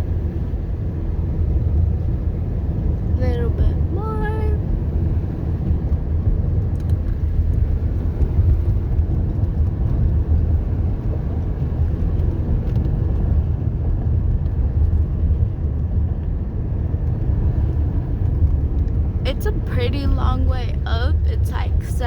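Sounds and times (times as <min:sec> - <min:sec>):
engine and tyre rumble in car: 0:00.0 - 0:22.0.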